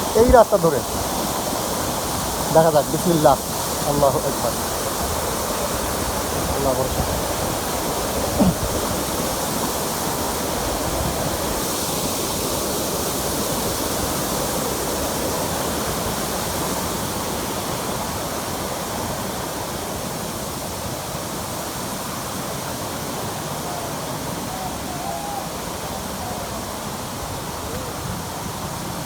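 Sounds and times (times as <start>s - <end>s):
waterfall splashing over rock: 0.0s - 29.0s.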